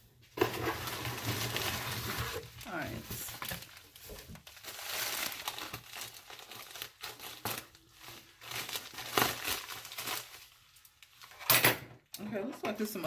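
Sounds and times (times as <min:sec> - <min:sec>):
plastic packing material crinkling: 0:00.4 - 0:11.4.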